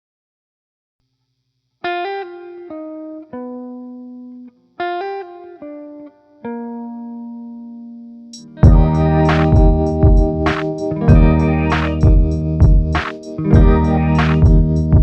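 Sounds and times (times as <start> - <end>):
guitar plucking melody: 1.9 - 15.0.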